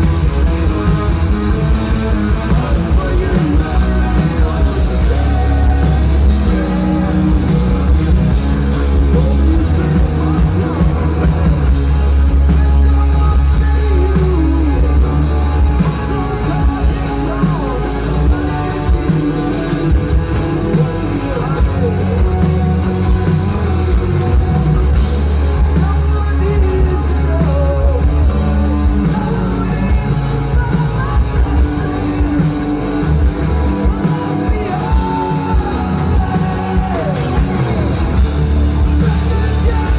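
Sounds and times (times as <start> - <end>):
drums: 0.0 - 39.9
heavy bass: 0.0 - 39.9
rock band playing live: 0.0 - 39.9
wall of guitar: 0.0 - 39.9
person singing: 2.3 - 38.2, 38.8 - 39.9.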